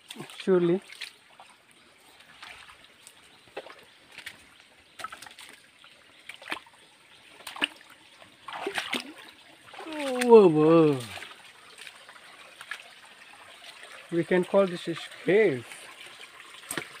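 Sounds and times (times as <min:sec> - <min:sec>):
knocks and splashes: 0:00.0 - 0:13.0, 0:13.6 - 0:17.0
stream water sloshing: 0:00.0 - 0:17.0.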